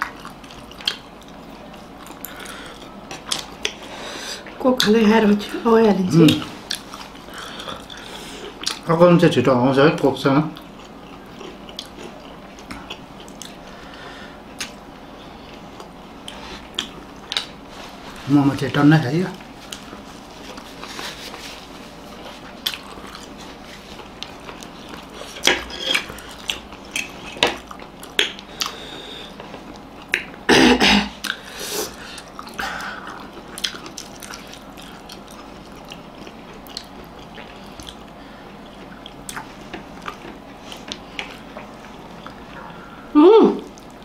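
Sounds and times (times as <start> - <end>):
people chewing dumplings: 0.0 - 4.6, 6.2 - 8.9, 10.5 - 18.3, 19.4 - 30.5, 31.1 - 44.0.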